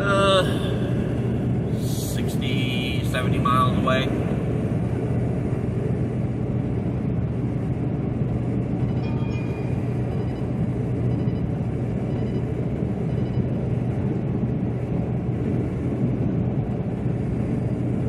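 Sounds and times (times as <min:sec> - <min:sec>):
road and engine noise in a cab: 0:00.0 - 0:18.0.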